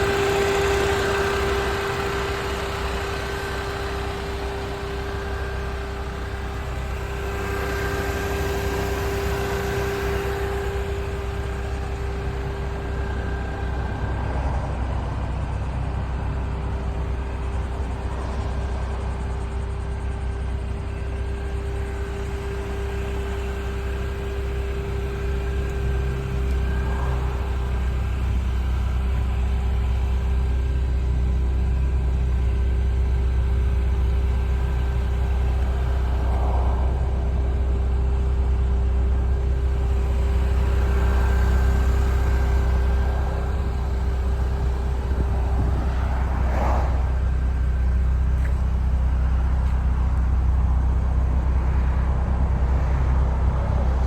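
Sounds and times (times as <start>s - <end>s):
car engine low rumble: 0.0s - 54.0s.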